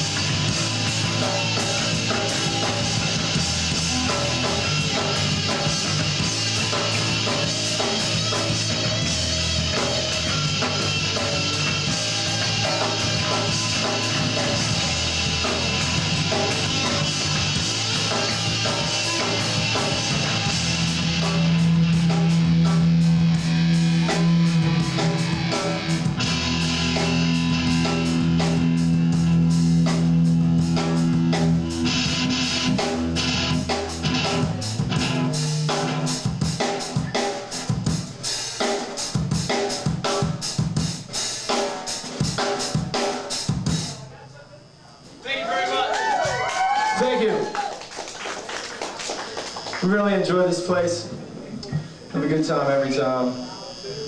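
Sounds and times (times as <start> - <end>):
drum kit: 0.0 - 44.1
electric guitars and bass chords: 0.0 - 44.8.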